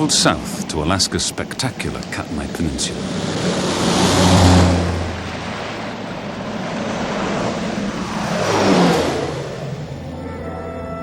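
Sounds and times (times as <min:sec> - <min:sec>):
propeller aircraft passing: 0:00.0 - 0:11.0.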